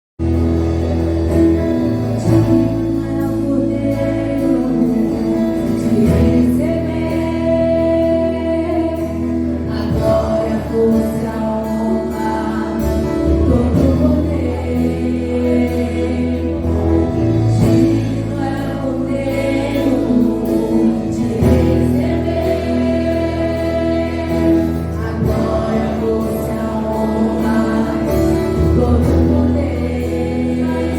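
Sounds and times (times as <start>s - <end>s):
sustained low bass: 0.2s - 30.9s
worship singing with accompaniment: 0.2s - 30.9s.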